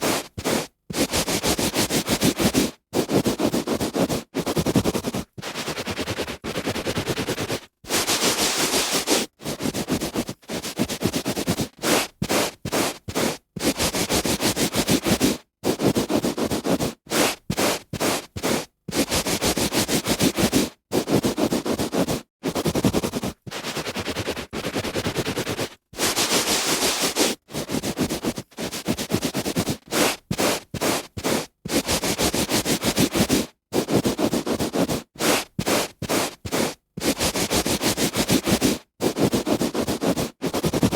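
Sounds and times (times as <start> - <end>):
hand rubbing on carpet: 0.0 - 40.9.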